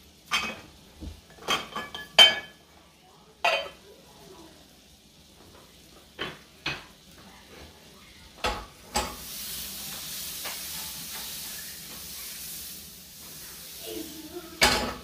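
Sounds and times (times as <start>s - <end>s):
butter sizzling in a frying pan: 0.0s - 15.0s.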